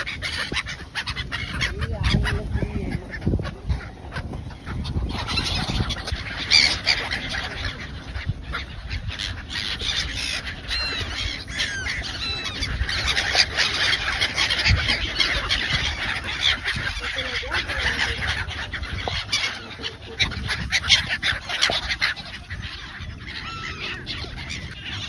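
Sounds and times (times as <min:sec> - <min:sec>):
gulls squawking: 0:00.0 - 0:25.0.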